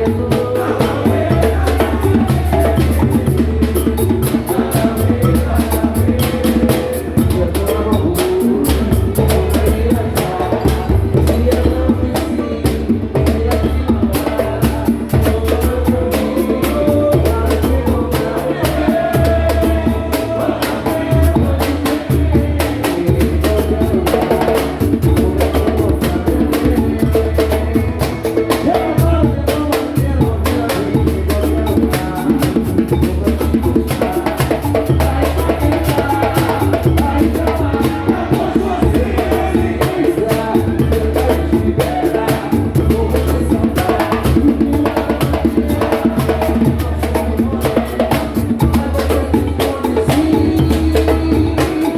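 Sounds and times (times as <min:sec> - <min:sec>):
dense steady percussion: 0:00.0 - 0:51.9.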